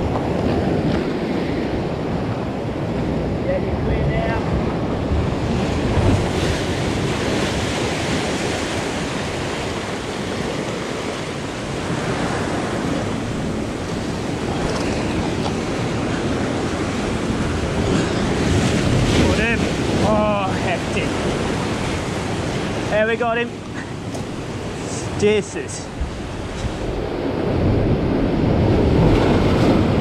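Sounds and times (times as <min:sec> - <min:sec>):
surf washing between boulders: 0:00.0 - 0:30.0.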